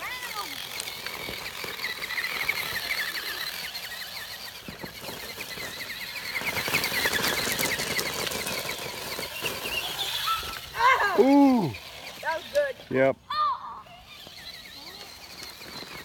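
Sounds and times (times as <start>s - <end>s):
fast steady chirping: 0.0s - 13.1s, 13.8s - 16.0s
rc truck tyres crackling on gravel: 0.0s - 13.2s, 13.8s - 16.0s.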